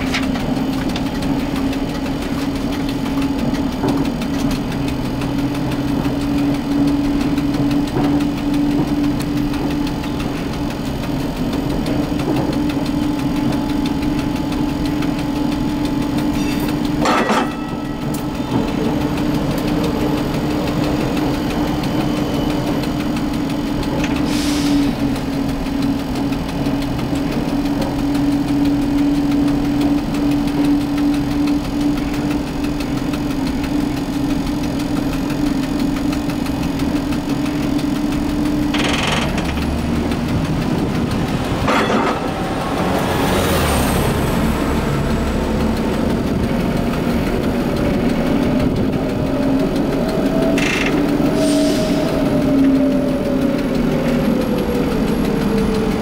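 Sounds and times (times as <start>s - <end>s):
streetcar motor hum: 0.0s - 56.0s
wheels on rails: 0.0s - 56.0s.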